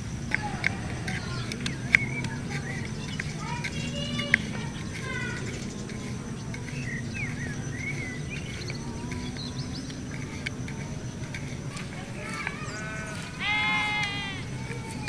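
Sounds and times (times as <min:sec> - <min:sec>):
insect drone: 0:00.0 - 0:15.0
low steady hum: 0:00.0 - 0:15.0.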